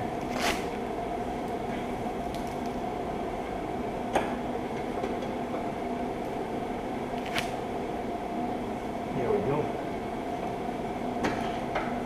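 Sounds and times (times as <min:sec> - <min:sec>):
fan-like machine humming: 0:00.0 - 0:12.0.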